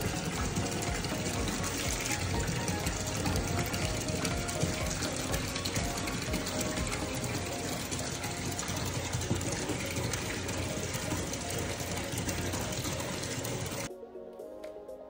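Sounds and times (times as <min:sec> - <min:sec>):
tap water pouring into bathtub: 0:00.0 - 0:13.9.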